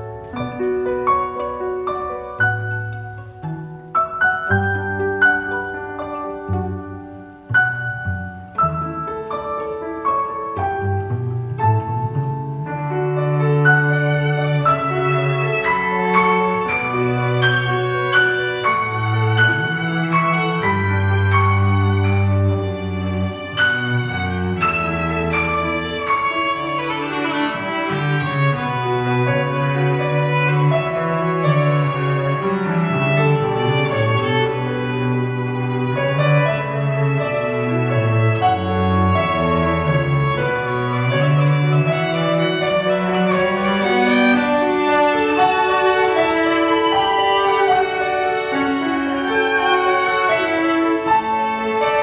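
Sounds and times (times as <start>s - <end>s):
slow classical piano: 0.0s - 52.0s
violin and cello playing: 0.0s - 52.0s.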